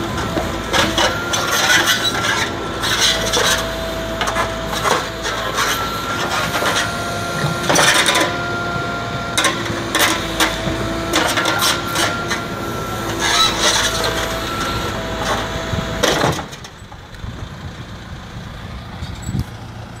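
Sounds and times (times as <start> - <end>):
backhoe engine whining: 0.0 - 20.0.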